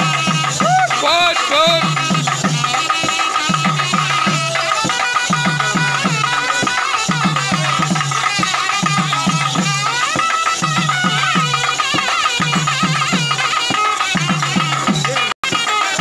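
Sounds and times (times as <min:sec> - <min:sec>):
high melody line: 0:00.0 - 0:16.0.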